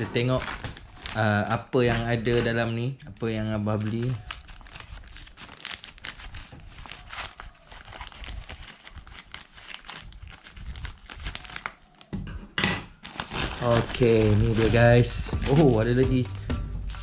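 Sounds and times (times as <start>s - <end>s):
plastic bag crinkling: 0.0s - 12.1s, 13.0s - 16.0s.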